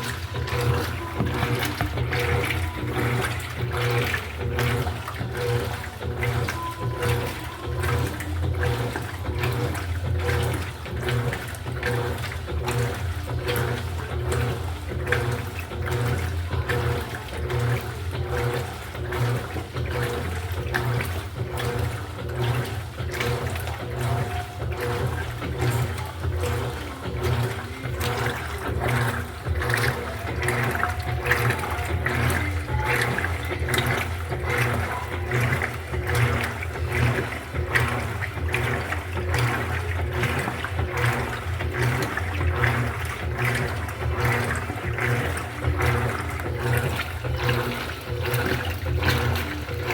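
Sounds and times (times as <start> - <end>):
washing machine motor hum: 0.0 - 49.9
washing machine water churning: 0.0 - 49.9.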